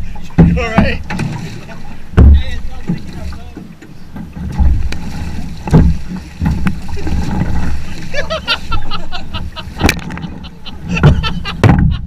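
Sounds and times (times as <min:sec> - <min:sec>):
water splashing around canoe: 0:00.0 - 0:12.0.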